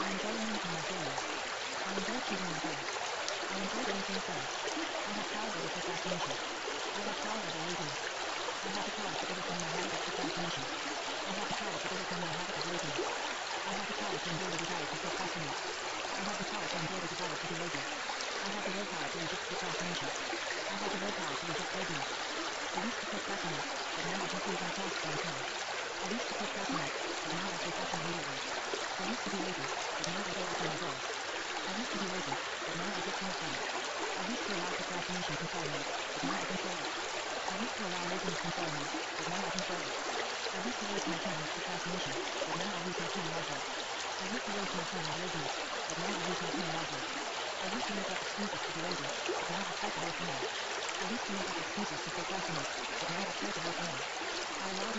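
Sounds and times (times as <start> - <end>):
faint low voice speaking: 0.0 - 54.9
running water stream: 0.0 - 54.9.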